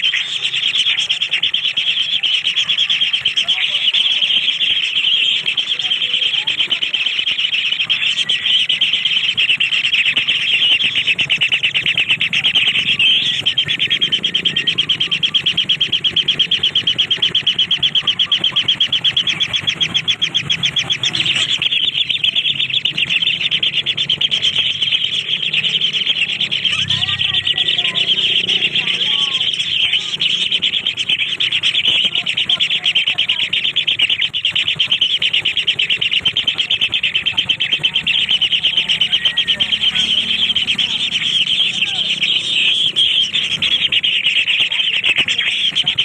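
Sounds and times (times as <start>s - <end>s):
bird chirping rapidly: 0.0s - 46.0s.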